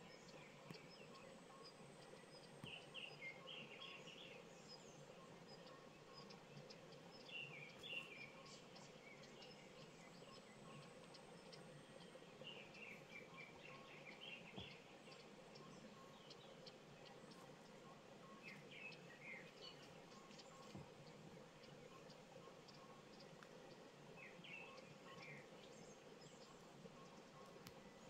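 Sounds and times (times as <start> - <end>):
faint steady hum: 0.0 - 28.0
small birds chirping: 0.0 - 28.0.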